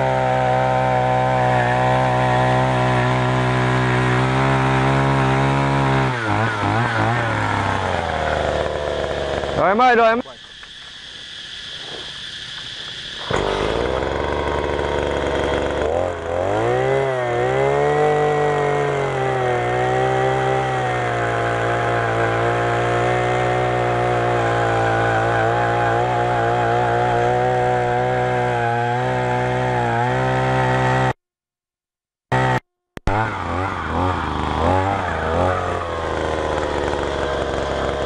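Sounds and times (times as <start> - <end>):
earth auger engine revving: 0.0 - 31.2, 32.3 - 38.0.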